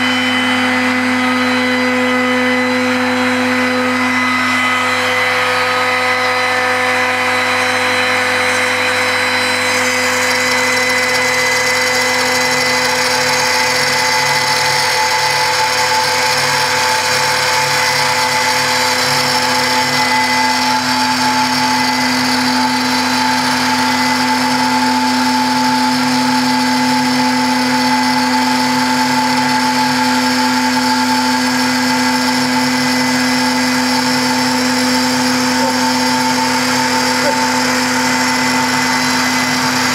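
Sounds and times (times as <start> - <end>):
machine spindle whine: 0.0 - 39.9
hiss of cutting stone: 7.8 - 39.9.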